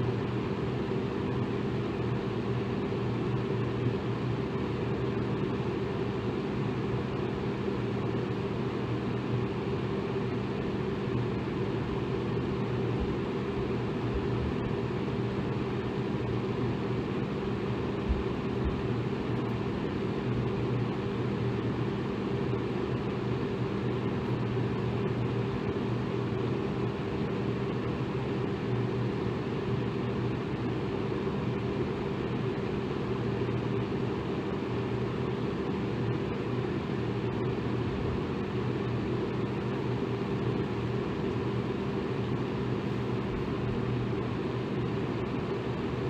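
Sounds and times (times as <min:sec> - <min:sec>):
electric fan running: 0:00.0 - 0:46.0.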